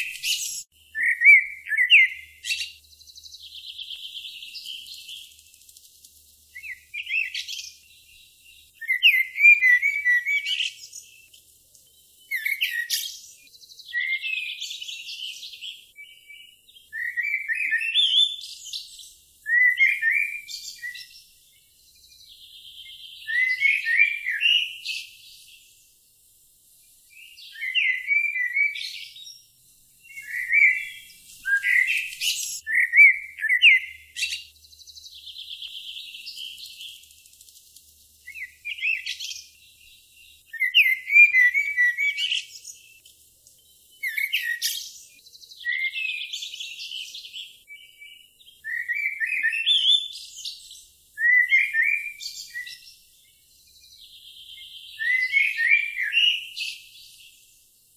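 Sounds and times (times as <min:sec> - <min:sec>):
songbird singing chirps and trills: 0:00.0 - 0:57.9.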